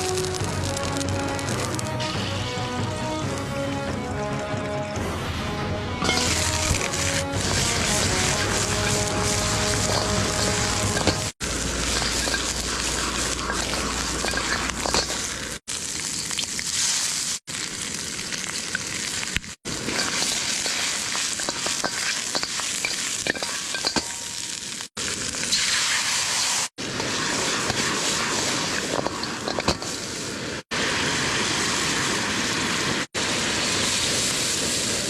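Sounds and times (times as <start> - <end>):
meat sizzling in a pan: 6.0 - 35.0.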